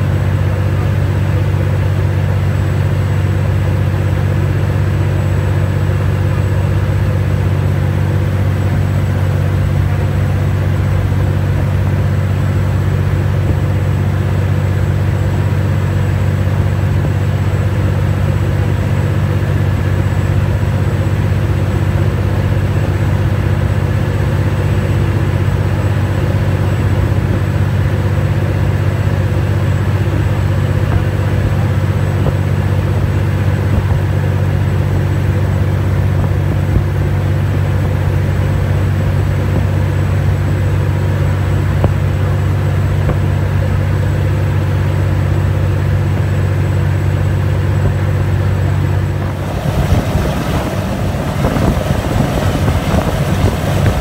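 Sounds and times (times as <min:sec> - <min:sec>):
ferry engine drone: 0:00.0 - 0:54.0.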